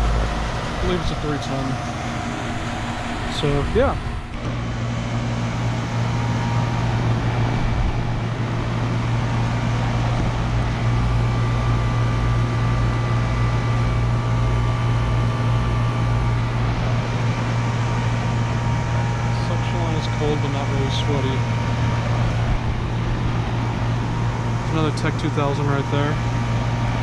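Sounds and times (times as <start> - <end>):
compressor hum: 0.0 - 27.0
condenser fan rushing: 0.0 - 27.0.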